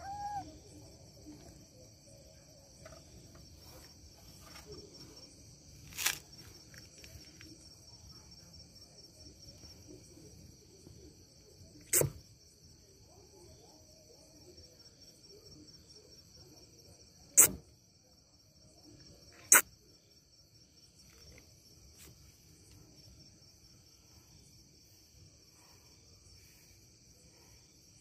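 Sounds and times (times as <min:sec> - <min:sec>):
crickets chirring: 0:00.0 - 0:28.0.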